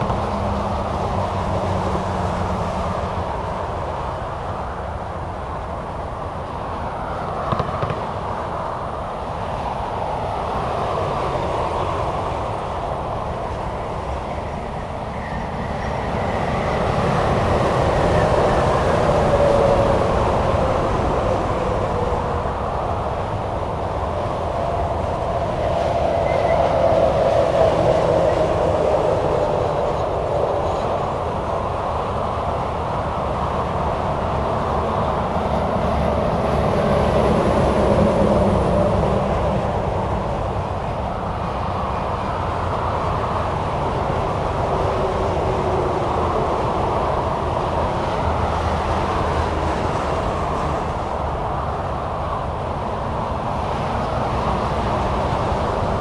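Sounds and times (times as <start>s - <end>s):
highway traffic tyre roar: 0.0s - 56.0s.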